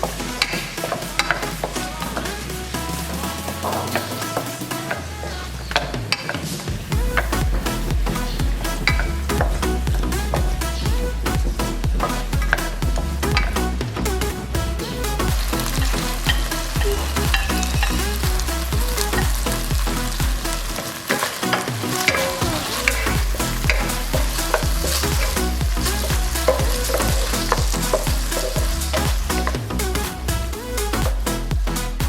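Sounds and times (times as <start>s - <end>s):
background music with bass: 0.0s - 32.0s.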